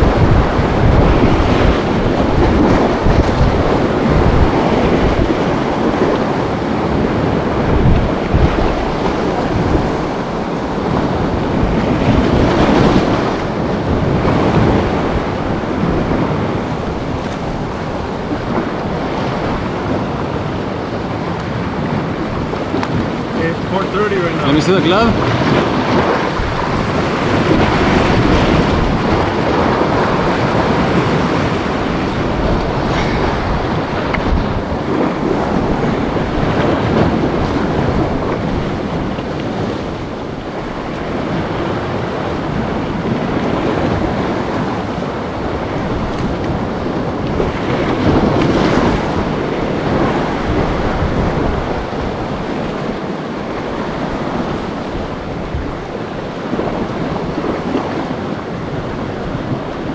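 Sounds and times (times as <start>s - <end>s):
ocean waves rushing: 0.0s - 59.9s
wind buffeting microphone: 0.0s - 59.9s.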